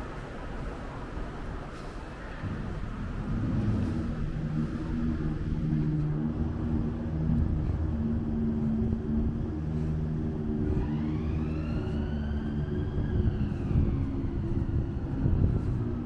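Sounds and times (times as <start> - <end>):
vehicle engines running low: 0.0 - 16.0
wind rumble on microphone: 0.0 - 16.0
high whine: 2.1 - 16.0.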